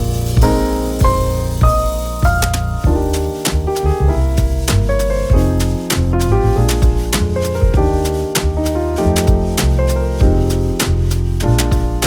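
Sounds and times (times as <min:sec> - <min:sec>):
piano chords: 0:00.0 - 0:12.0
steady drum beat: 0:00.0 - 0:12.0.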